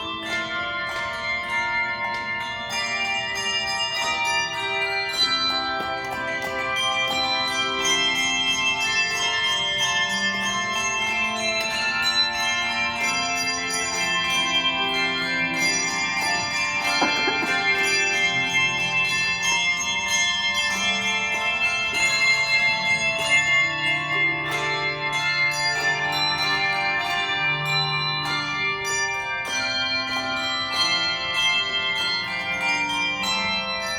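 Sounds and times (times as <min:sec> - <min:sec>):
handbell ensemble playing: 0:00.0 - 0:33.9.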